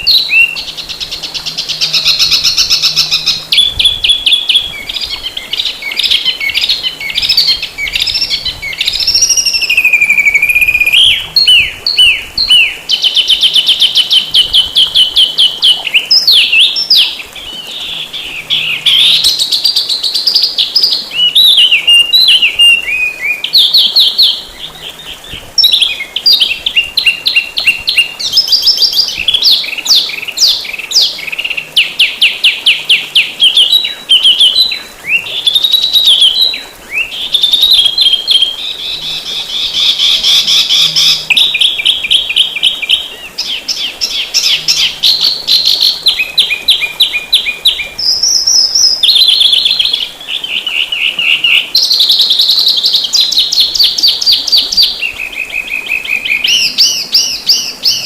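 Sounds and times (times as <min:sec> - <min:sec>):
songbird trilling song: 0:00.0 - 0:58.0.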